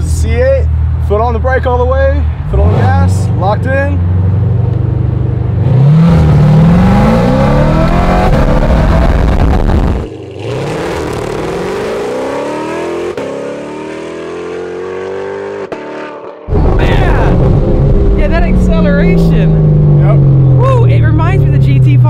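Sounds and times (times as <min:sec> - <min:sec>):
car engine revving: 0:02.4 - 0:22.0.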